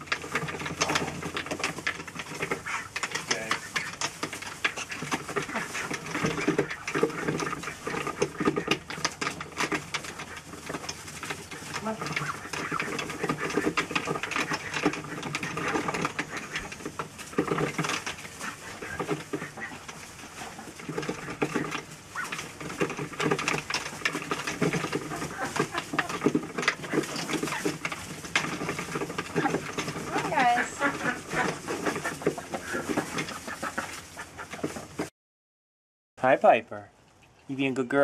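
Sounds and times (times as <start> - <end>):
duck bills clattering in water: 0.0 - 35.1.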